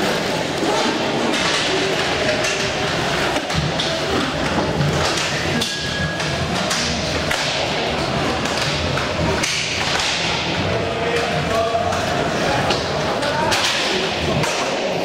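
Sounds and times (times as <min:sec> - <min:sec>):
noisy din of play: 0:00.0 - 0:15.0
sticks and puck knocking boards: 0:00.6 - 0:15.0.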